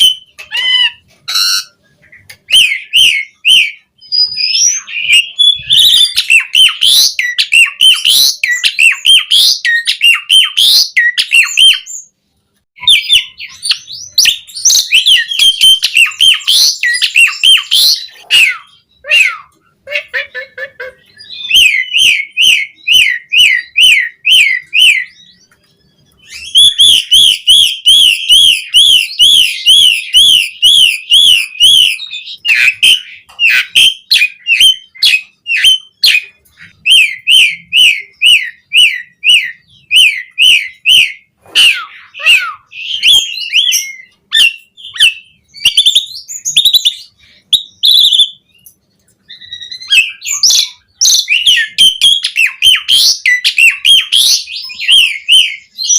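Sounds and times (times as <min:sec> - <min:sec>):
starling singing: 0:00.0 - 0:12.1, 0:12.8 - 0:55.9.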